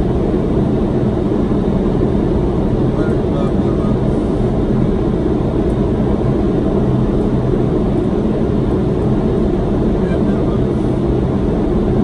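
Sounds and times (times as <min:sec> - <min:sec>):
airflow and engine rumble: 0:00.0 - 0:12.0.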